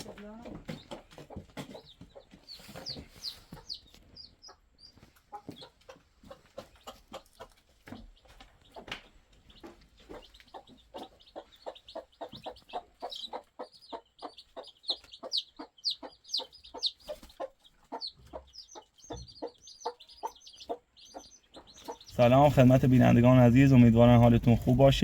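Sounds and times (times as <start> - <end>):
chicks peeping: 0.0 - 25.0
hen clucking: 0.0 - 25.0.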